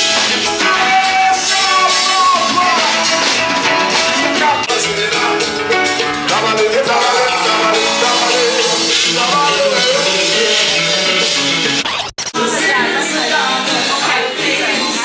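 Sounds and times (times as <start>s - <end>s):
song with singing over guitar and drums: 0.0s - 15.0s.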